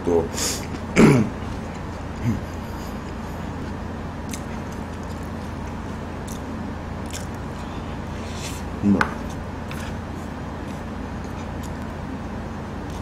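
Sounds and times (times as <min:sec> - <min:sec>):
steady background hum: 0:00.0 - 0:13.0
faint chewing: 0:00.6 - 0:11.9.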